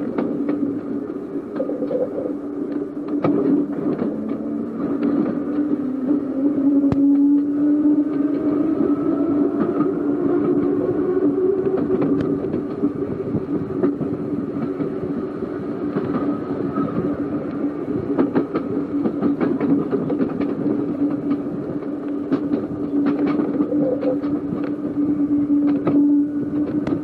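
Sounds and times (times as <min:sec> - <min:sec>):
electric tram motor hum: 0:00.0 - 0:27.0
wheels clicking over rail joints: 0:00.0 - 0:27.0.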